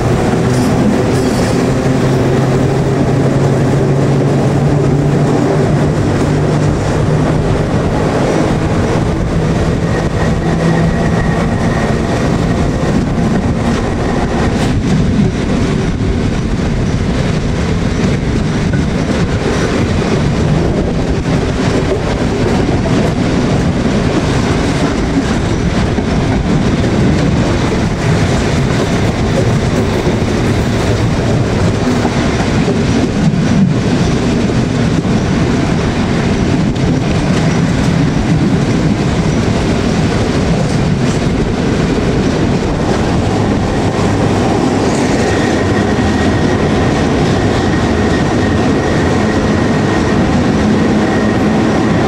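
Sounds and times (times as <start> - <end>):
train wheels rolling on rails: 0.0 - 52.0.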